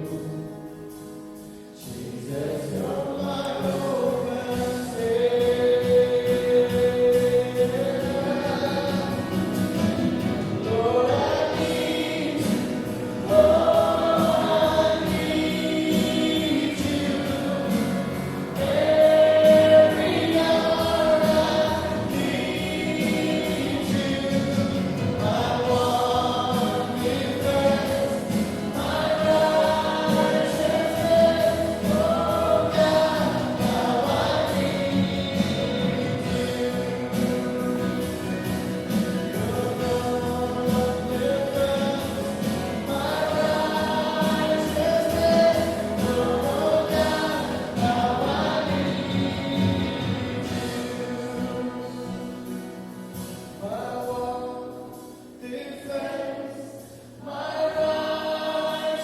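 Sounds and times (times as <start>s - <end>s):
congregation singing worship song: 0.0s - 59.0s
instrumental backing: 0.0s - 59.0s.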